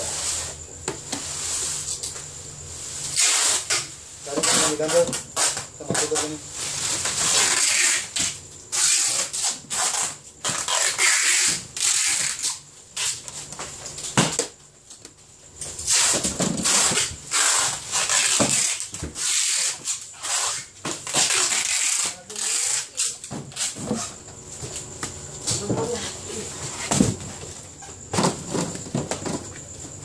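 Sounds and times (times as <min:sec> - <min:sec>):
plastic containers rustling and scraping: 0:00.0 - 0:14.6, 0:15.6 - 0:30.0.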